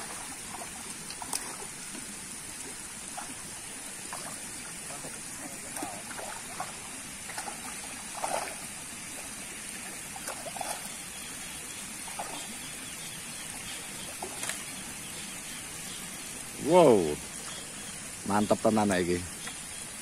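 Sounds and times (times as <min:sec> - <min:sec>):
pond water trickling: 0:00.0 - 0:20.0.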